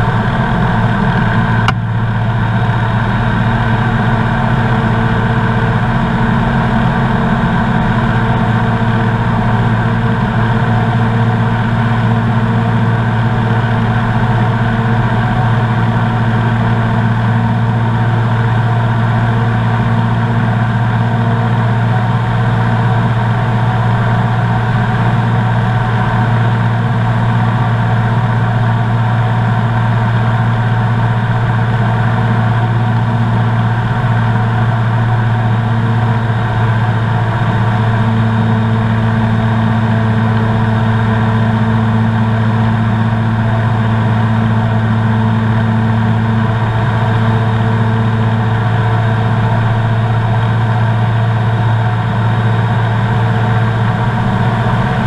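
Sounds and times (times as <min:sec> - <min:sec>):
ultralight engine and propeller droning: 0:00.0 - 0:55.0.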